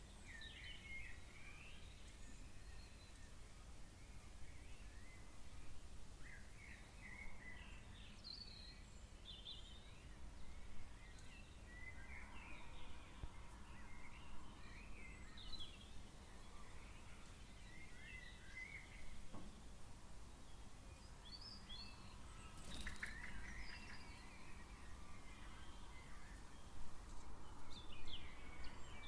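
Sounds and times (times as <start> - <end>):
birds chirping and twittering: 0.0 - 29.0.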